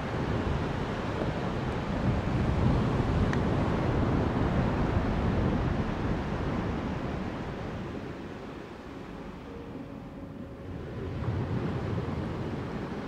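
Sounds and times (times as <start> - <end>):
wind buffeting microphone: 0.0 - 9.7, 10.3 - 13.0.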